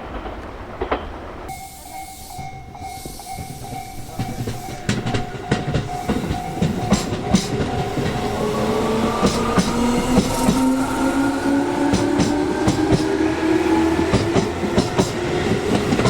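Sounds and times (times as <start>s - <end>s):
train wheels clicking over rail joints: 0.0s - 16.0s
train motor whine: 1.5s - 16.0s.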